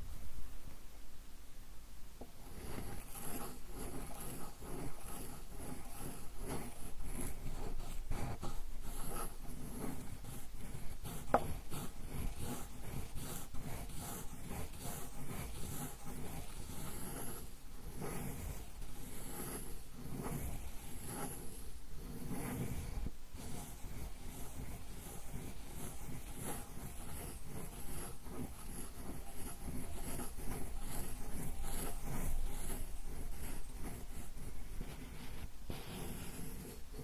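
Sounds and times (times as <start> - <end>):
ink stick rubbing on stone: 2.4 - 37.0.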